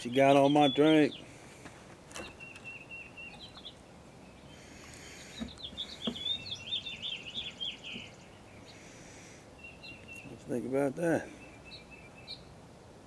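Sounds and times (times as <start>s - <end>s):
songbird twittering: 0.0s - 1.4s, 2.2s - 12.6s.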